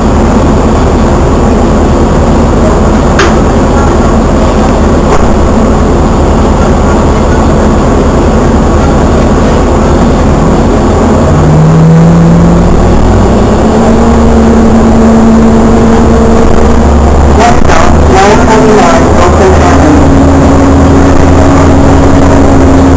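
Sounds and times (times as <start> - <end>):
road rumble inside cabin: 0.0 - 22.9
vehicle engine accelerating: 0.0 - 22.9.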